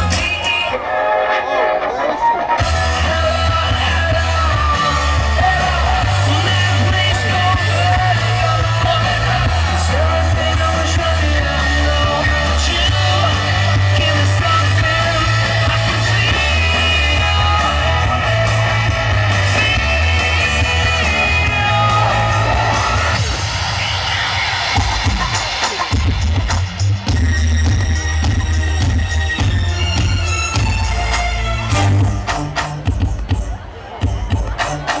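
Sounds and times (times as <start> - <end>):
bass line: 0.0 - 0.8, 2.6 - 35.0
loud music with singing: 0.0 - 35.0.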